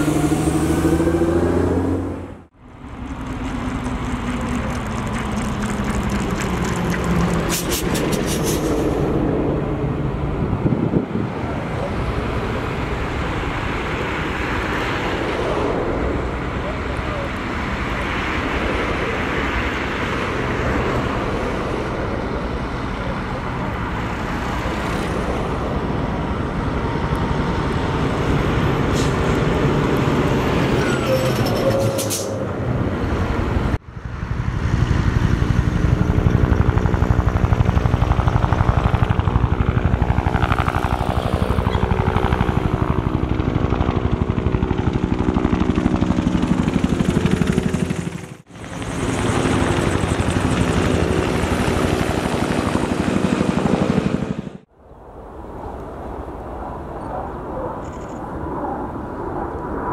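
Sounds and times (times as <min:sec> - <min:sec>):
helicopter rotors beating: 0:00.0 - 0:31.4, 0:32.5 - 0:59.9.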